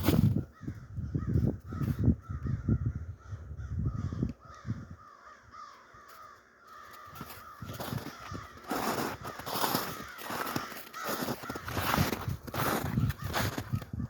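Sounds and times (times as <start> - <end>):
crows cawing: 0.5 - 14.0.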